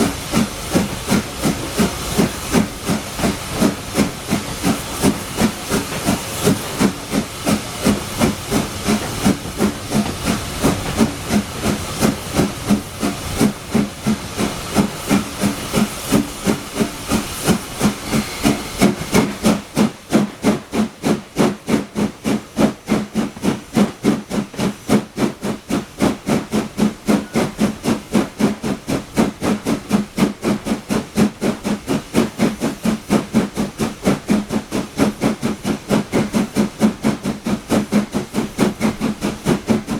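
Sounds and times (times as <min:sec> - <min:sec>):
loud steam hiss: 0:00.0 - 0:39.9
steam locomotive exhaust beats: 0:00.0 - 0:39.9.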